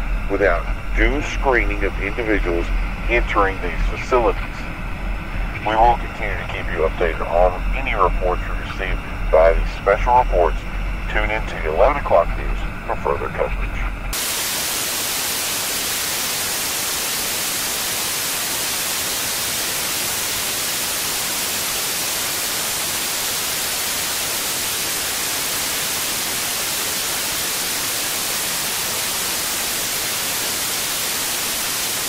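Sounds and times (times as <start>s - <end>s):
television static hiss: 0.0s - 32.0s.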